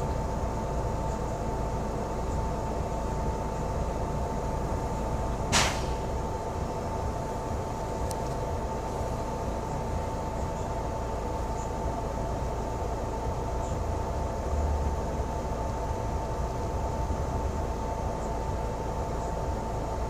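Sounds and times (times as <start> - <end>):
bus engine and road rumble: 0.0 - 20.0
thin steady whine: 0.0 - 20.0.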